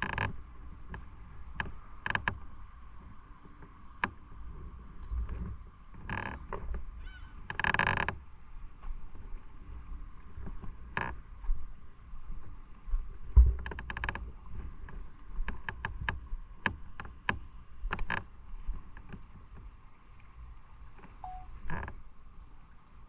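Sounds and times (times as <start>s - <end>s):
low wind rumble: 0.0s - 23.0s.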